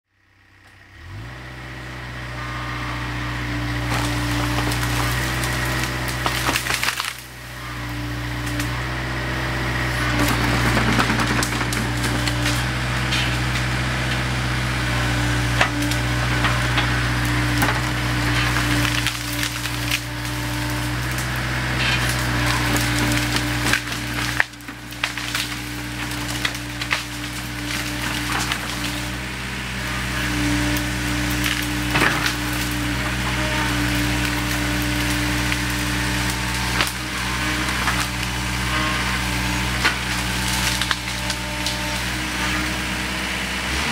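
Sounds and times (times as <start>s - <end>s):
excavator diesel engine running: 0.1s - 43.9s
branches cracking and splintering: 3.5s - 43.9s.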